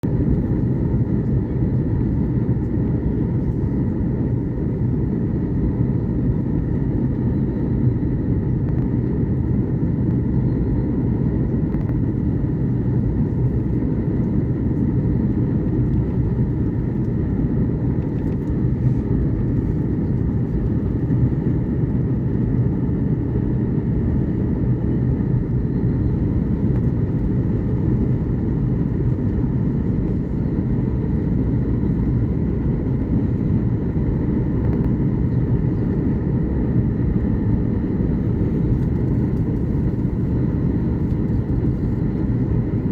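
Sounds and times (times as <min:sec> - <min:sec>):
airflow and jet engine rush: 0:00.0 - 0:42.9.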